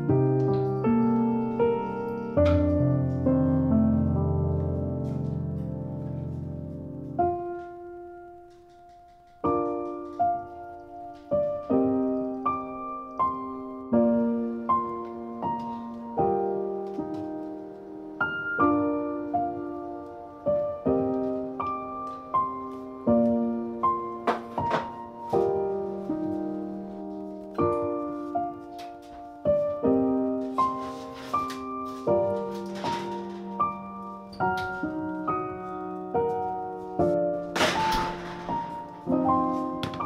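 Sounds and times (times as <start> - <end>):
slow piano piece: 0.0 - 40.0.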